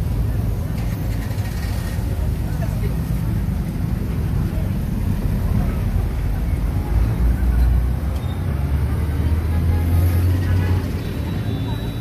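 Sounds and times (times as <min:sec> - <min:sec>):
street traffic: 0:00.0 - 0:12.0
vehicle engine rumble: 0:00.0 - 0:12.0.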